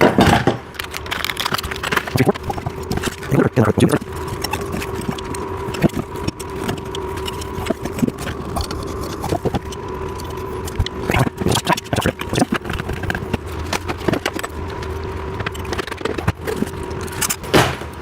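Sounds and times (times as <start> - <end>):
heater humming: 0.0 - 18.0
small metal clicks and scrapes: 0.7 - 17.5.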